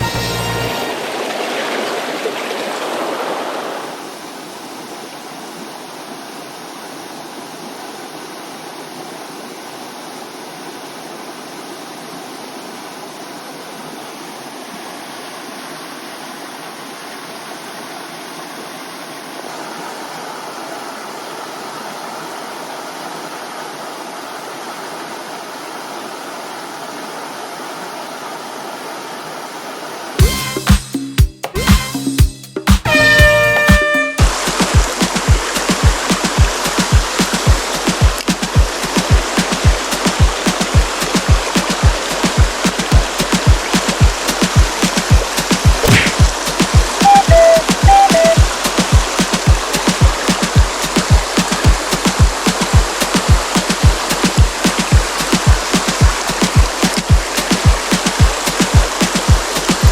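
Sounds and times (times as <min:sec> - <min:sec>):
stream water rushing: 0:00.0 - 0:30.7, 0:32.8 - 0:59.9.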